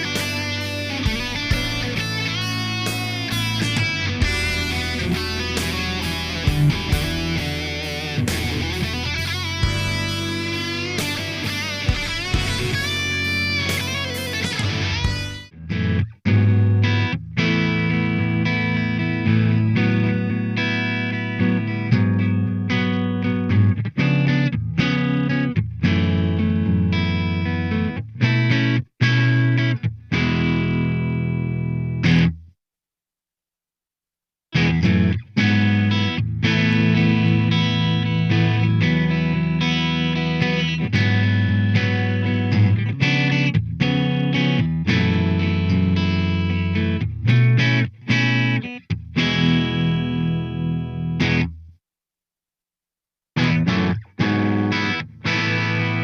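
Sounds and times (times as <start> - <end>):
clean electric guitar chords: 0.0 - 32.4, 34.6 - 51.6, 53.4 - 56.0.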